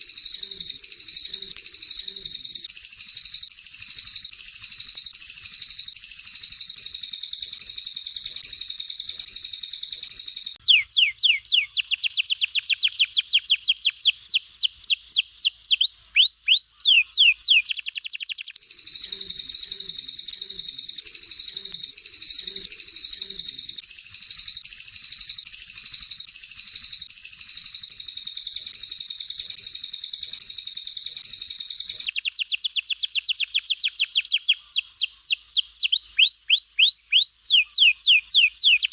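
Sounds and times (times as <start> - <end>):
canary high-pitched trill: 0.0 - 38.9.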